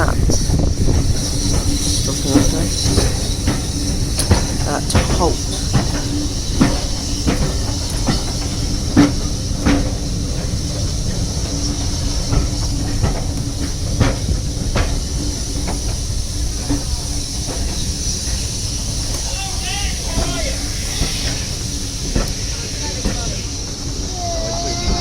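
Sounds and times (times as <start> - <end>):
train rumbling and hissing: 0.0 - 25.0
wheels clicking and knocking: 0.0 - 25.0.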